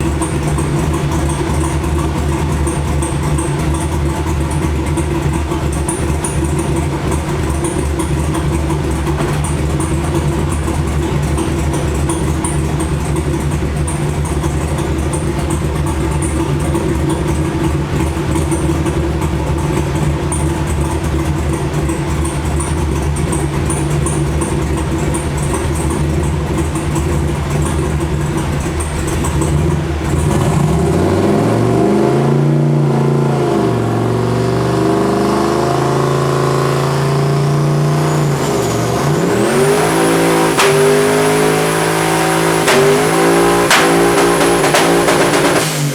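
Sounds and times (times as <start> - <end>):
engine running steadily: 0.0 - 36.7, 37.4 - 45.9.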